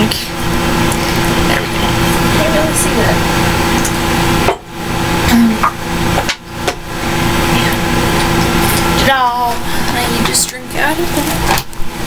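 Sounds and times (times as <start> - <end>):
microphone hiss and hum: 0.0 - 12.0.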